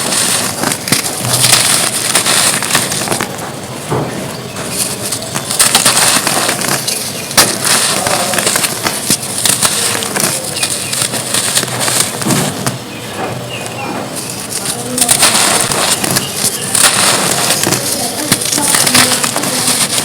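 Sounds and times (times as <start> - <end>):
dry dirt crumbling and crunching: 0.0 - 20.0.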